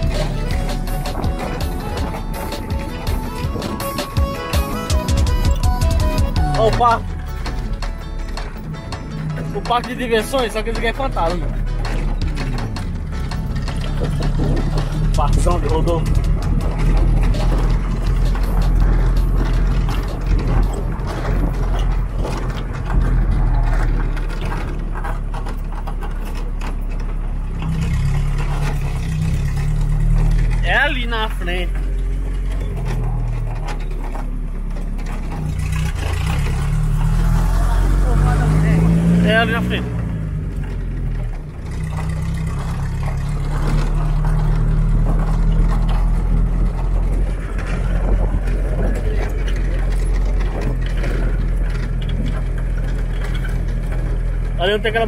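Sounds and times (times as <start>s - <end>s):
road noise: 0.0s - 55.0s
vehicle engine running: 0.0s - 55.0s.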